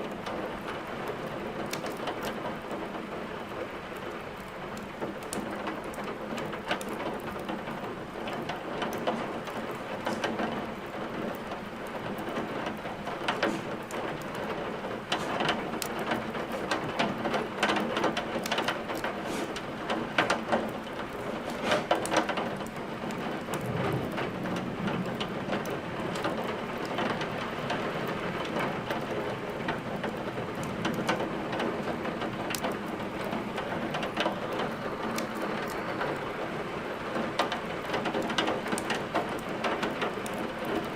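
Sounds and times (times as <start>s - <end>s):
steady rain: 0.0s - 40.9s
wood fire crackling and popping: 0.0s - 40.9s.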